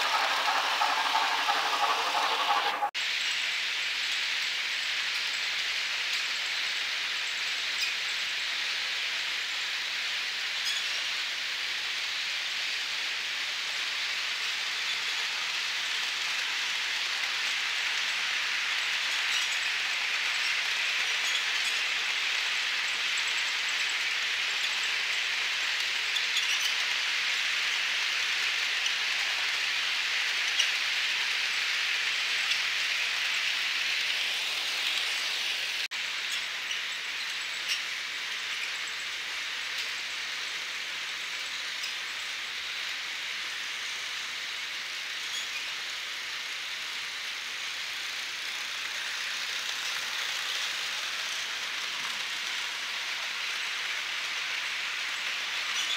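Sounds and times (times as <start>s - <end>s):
model train whirring: 0.0s - 55.9s.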